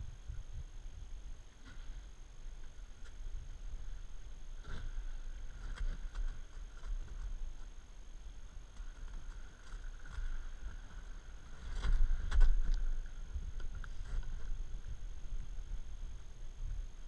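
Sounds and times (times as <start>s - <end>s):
kayak crunching through ice: 2.7s - 16.4s.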